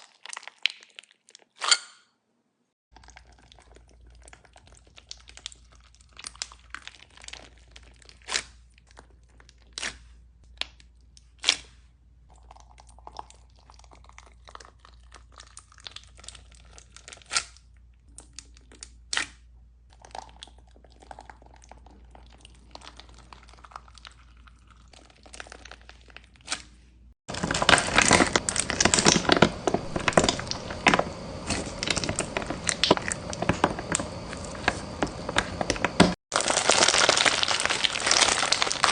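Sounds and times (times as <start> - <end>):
crunchy slime crackling: 0.0 - 1.7, 3.0 - 11.8, 12.9 - 38.9.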